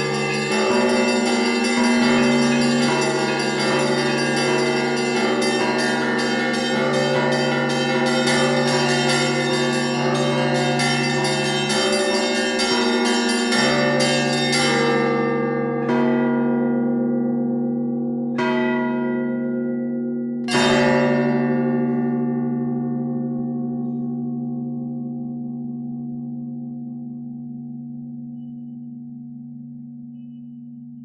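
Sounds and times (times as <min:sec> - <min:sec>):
large church bells humming: 0:00.0 - 0:28.2
small church bells striking rapidly: 0:00.0 - 0:30.1.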